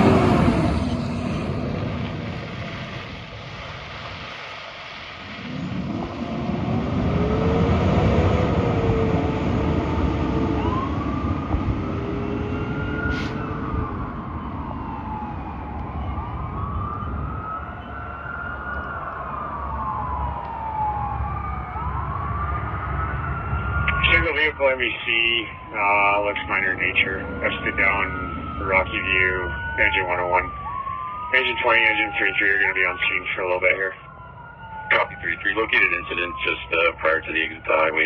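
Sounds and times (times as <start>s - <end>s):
engine rumble: 0.0s - 18.9s, 19.7s - 38.0s
fire engine siren wailing: 0.0s - 38.0s.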